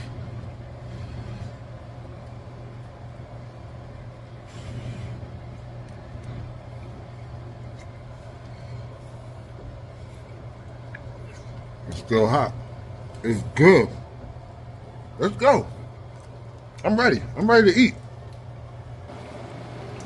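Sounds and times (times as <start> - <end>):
kitchen appliance humming: 0.0 - 20.0.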